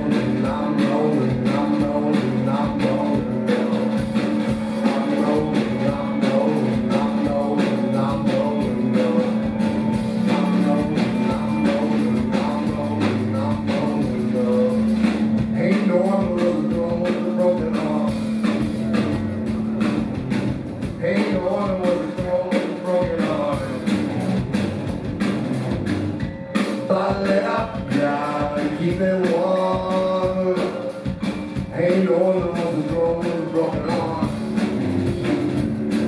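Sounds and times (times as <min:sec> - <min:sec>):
drums keeping steady beat: 0:00.0 - 0:36.0
rock band playing live: 0:00.0 - 0:36.0.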